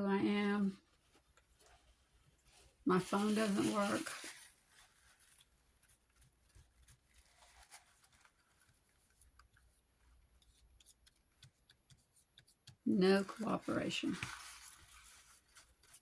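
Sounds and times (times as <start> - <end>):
paper rustling and ticking: 0.9 - 16.0.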